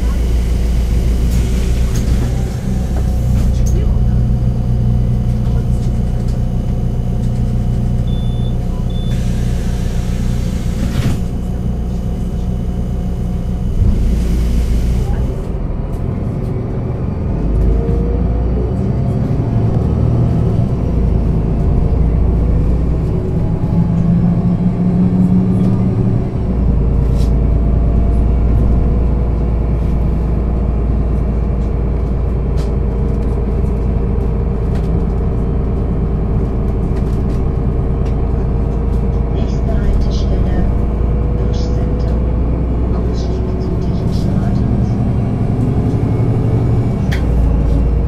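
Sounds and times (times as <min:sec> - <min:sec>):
bus engine running: 0:00.0 - 0:48.0.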